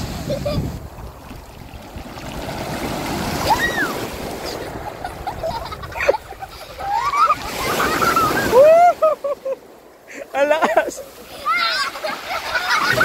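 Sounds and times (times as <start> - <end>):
sea surf washing on beach: 0.0 - 13.0.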